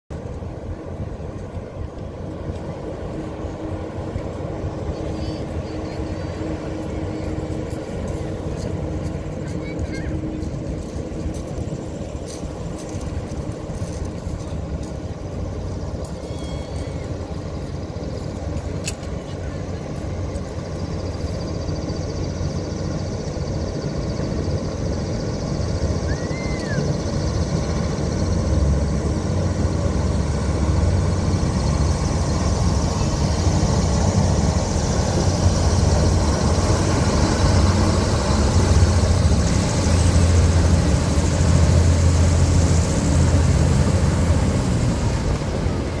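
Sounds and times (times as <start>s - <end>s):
hovercraft engines rumbling: 0.1s - 46.0s.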